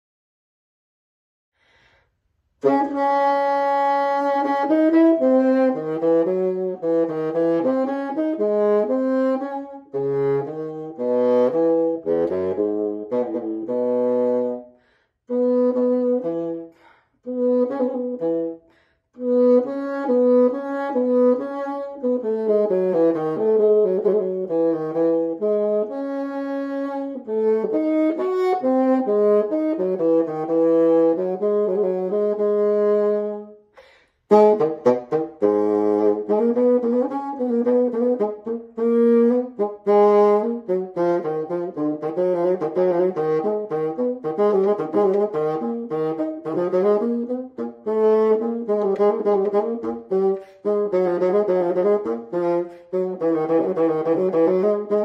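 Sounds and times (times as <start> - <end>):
bassoon melody: 2.6 - 33.7, 34.3 - 55.0.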